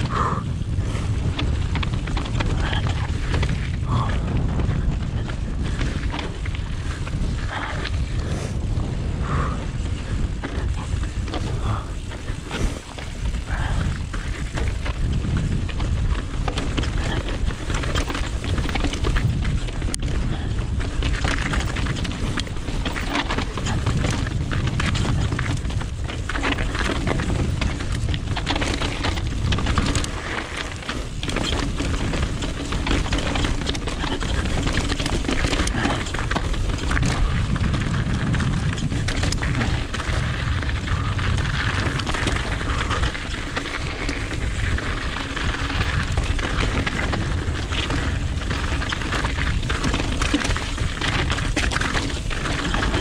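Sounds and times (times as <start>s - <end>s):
bike rattling over rocks: 0.0s - 53.0s
bike tyre roar: 0.0s - 53.0s
wind on microphone: 0.0s - 53.0s.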